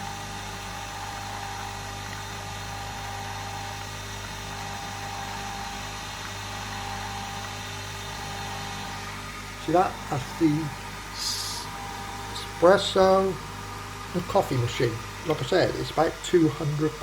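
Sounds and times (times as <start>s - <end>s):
coffee machine humming: 0.0s - 17.0s.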